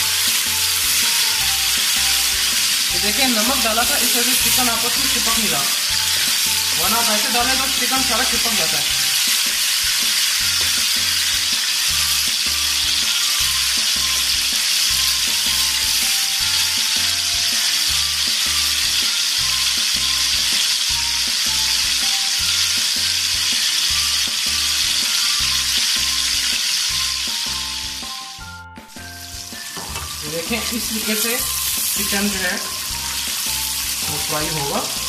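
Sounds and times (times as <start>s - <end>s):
background music with beat: 0.0s - 35.0s
chicken sizzling in hot oil: 0.0s - 35.0s.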